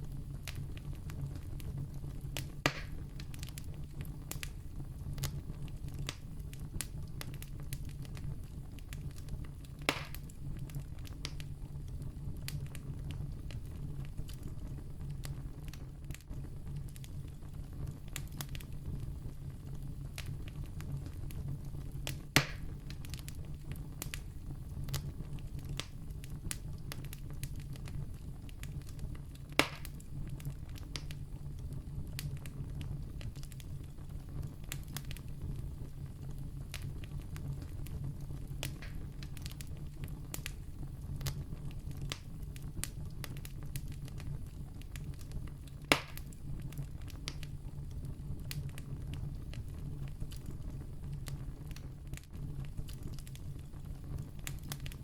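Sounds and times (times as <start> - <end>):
campfire crackling: 0.0 - 55.0
fire popping: 0.0 - 55.0.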